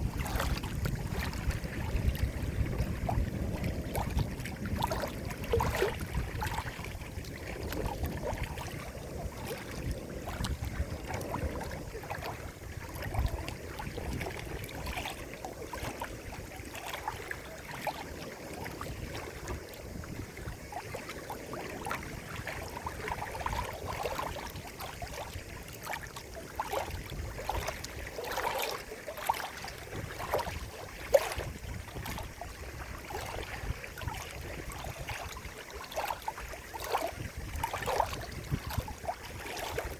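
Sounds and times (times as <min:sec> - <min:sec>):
small water splashes and plops: 0:00.0 - 0:39.9
water trickling and gurgling: 0:00.0 - 0:39.9.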